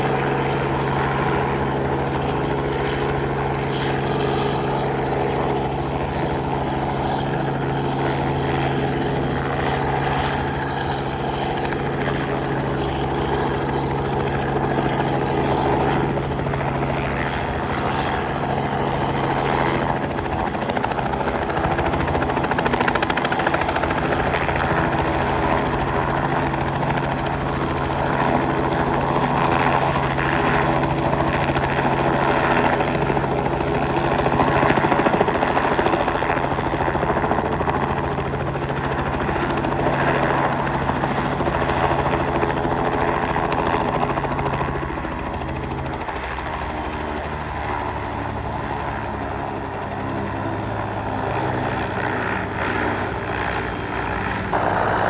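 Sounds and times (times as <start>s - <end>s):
helicopter engine and rotor hum: 0.0s - 55.0s.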